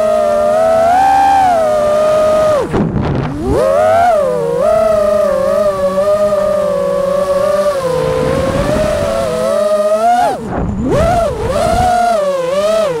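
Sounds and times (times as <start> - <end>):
drone motors whining: 0.0 - 13.0
low wind rumble: 0.0 - 13.0.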